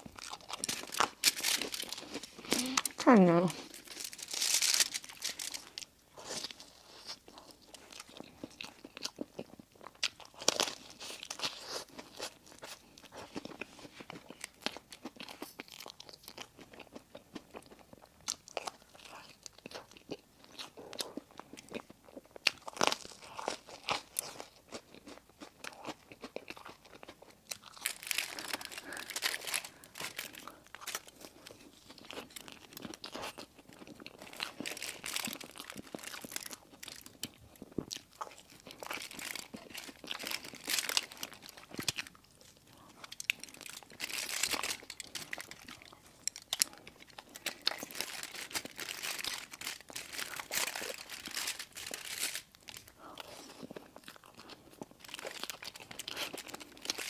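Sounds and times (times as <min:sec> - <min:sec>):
crunchy food chewing: 0:00.0 - 0:57.0.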